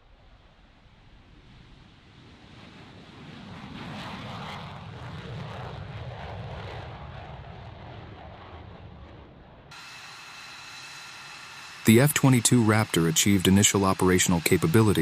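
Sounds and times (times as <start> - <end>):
jet engine rumble: 0.8 - 15.0.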